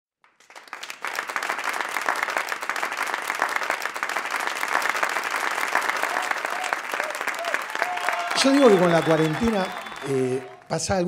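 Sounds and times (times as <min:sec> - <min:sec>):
audience applauding: 0:00.2 - 0:11.0.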